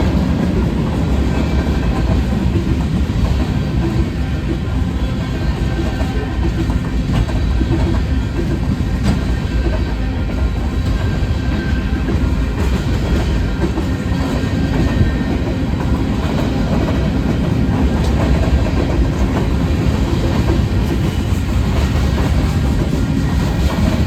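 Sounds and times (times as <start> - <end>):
train wheels rumbling: 0.0 - 24.0.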